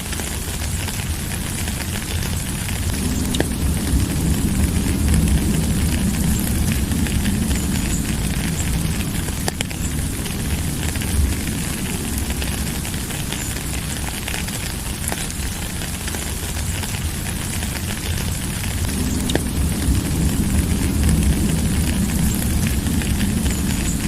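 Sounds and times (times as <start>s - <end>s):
low rumble: 0.0s - 24.0s
steady rain falling: 0.0s - 24.0s.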